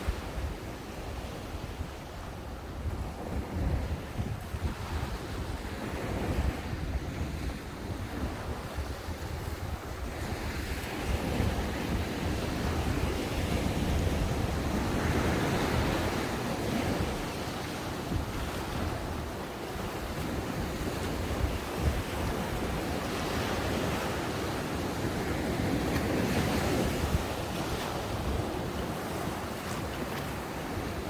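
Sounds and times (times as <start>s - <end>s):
ocean waves breaking: 0.0s - 31.0s
wind buffeting the microphone: 0.0s - 31.0s.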